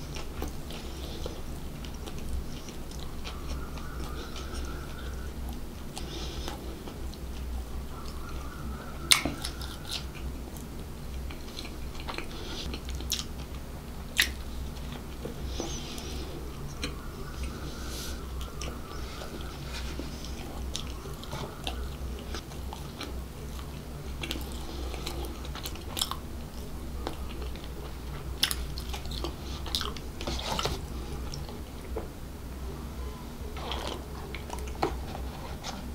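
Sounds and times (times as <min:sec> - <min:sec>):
chewing and mouth sounds: 0:00.0 - 0:08.4, 0:09.0 - 0:32.0, 0:33.5 - 0:35.9
low hum: 0:00.0 - 0:35.9.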